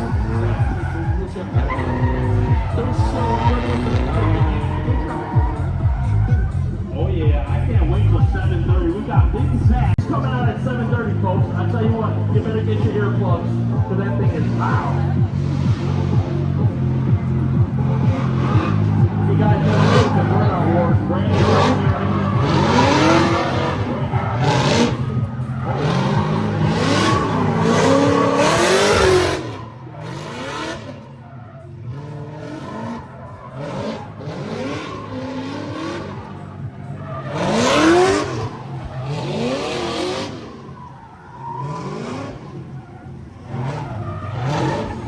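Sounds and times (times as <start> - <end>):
car engines revving: 0.0 - 45.0
tyres squealing and skidding: 0.0 - 45.0.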